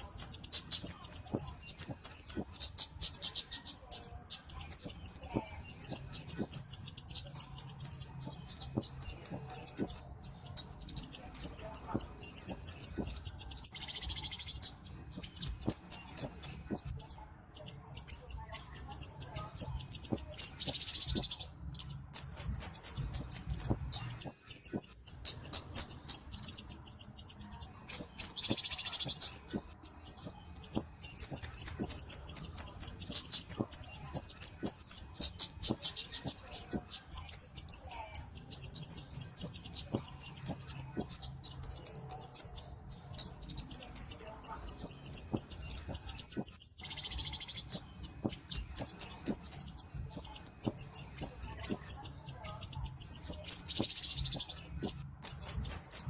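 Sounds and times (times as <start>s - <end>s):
bird calling in rapid high chips: 0.0s - 56.0s.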